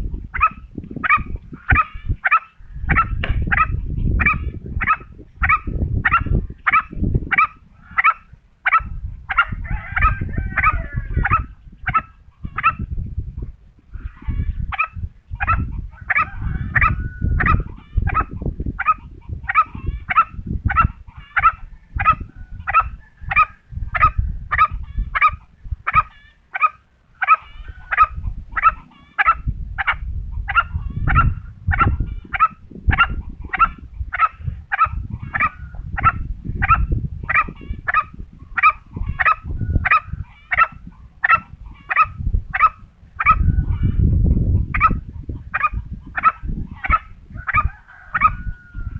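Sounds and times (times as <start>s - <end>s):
junglefowl calling: 0.4s - 12.9s, 14.0s - 44.1s, 44.7s - 48.9s.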